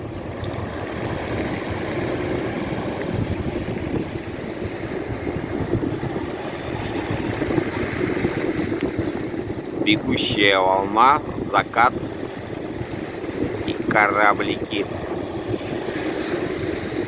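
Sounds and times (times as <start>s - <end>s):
sea waves washing on shore: 0.0s - 17.0s
wind buffeting microphone: 0.0s - 17.0s.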